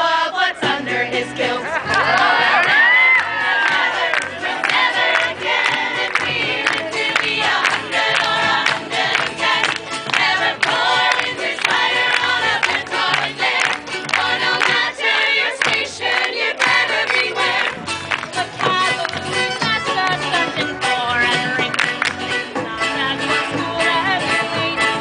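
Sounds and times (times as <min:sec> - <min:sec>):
voices singing together: 0:00.0 - 0:25.0.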